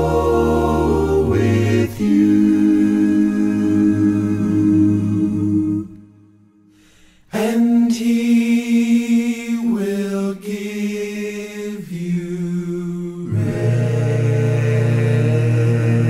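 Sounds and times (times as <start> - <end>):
a cappella voices singing: 0.0 - 16.0.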